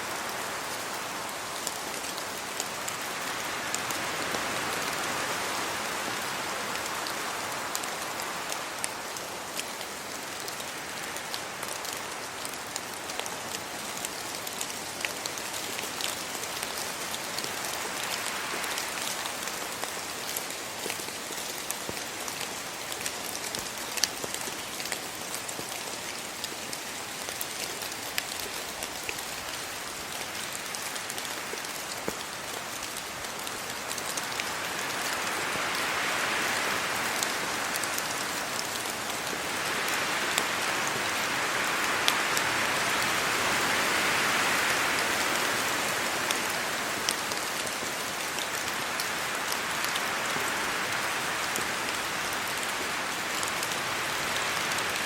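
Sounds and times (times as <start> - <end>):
steady rain falling: 0.0 - 55.0
wind gusts through trees: 0.0 - 55.0.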